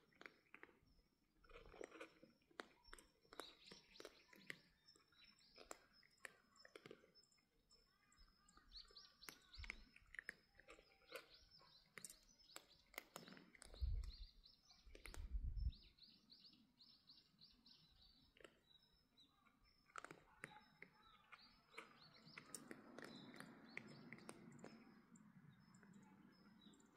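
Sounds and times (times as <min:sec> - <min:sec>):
cats crunching food: 0:00.0 - 0:16.0, 0:17.8 - 0:26.9
faint small birds chirping: 0:00.0 - 0:26.9.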